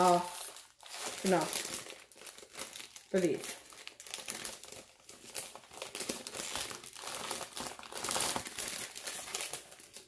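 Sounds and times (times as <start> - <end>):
snack wrapper crinkling: 0.0 - 10.0.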